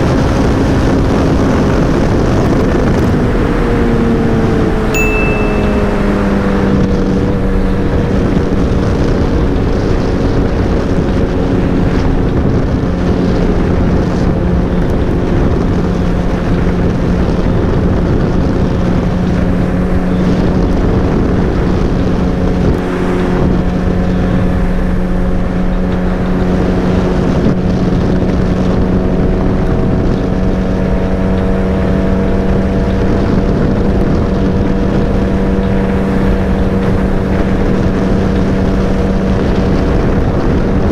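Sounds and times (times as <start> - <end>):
motorcycle engine cruising: 0.0 - 40.9
wind rushing over microphone: 0.0 - 40.9.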